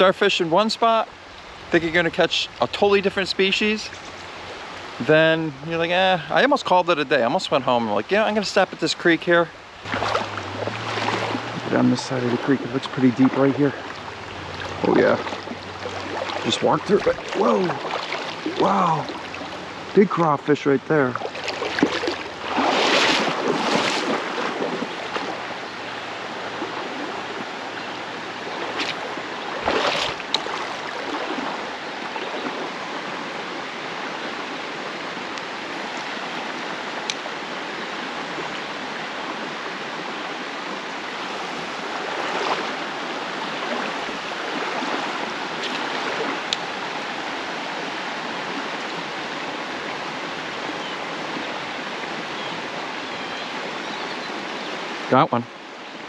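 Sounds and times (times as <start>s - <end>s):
creek water flowing over rocks: 0.0s - 56.0s
wading through water: 7.6s - 55.0s.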